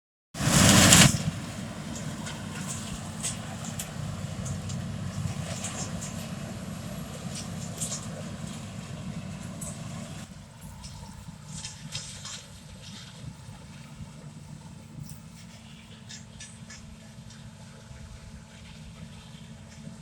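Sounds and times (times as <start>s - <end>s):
engine running low rumble: 0.4s - 20.0s.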